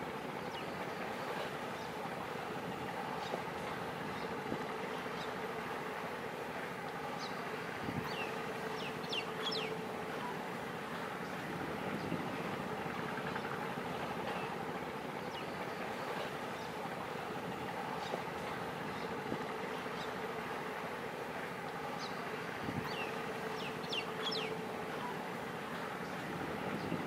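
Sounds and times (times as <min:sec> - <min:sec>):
distant boat engine drone: 0:00.0 - 0:27.0
wind and water hiss: 0:00.0 - 0:27.0.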